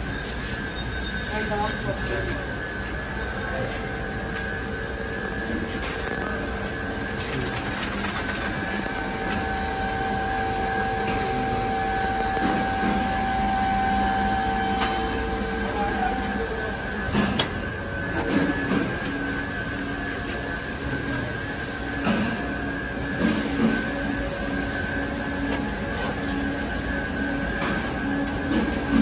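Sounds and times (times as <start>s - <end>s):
industrial machinery hum: 0.0s - 29.0s
machinery whining tones: 0.0s - 29.0s.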